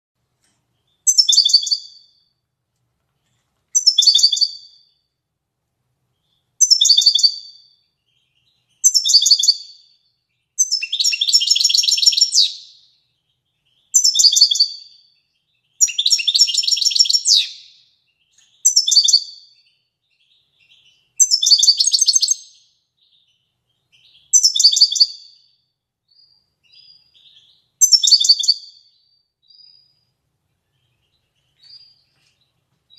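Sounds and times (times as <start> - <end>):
bird twittering song: 0.7 - 2.4, 3.2 - 5.1, 6.1 - 32.9.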